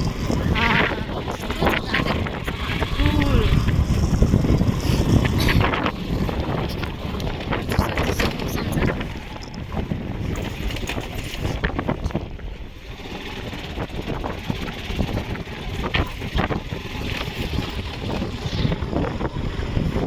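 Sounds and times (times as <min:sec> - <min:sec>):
vehicle driving on rough road: 0:00.0 - 0:20.0
wind buffeting microphone: 0:00.0 - 0:20.0.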